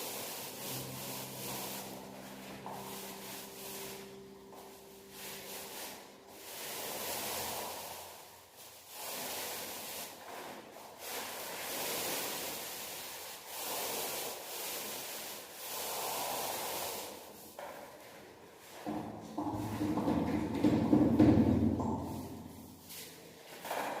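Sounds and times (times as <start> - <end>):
paint brush rubbing on wall: 0.0 - 24.0.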